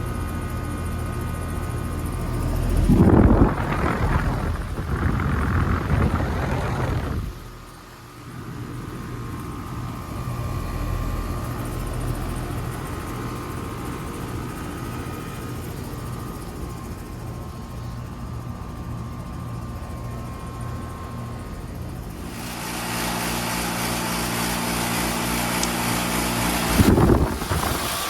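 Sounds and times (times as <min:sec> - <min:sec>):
air conditioner humming: 0:00.0 - 0:28.0
faint steady whine: 0:00.0 - 0:28.0.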